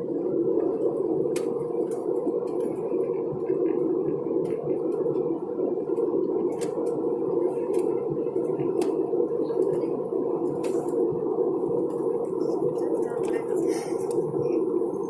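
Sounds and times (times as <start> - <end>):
airliner cabin hum: 0.0 - 15.0.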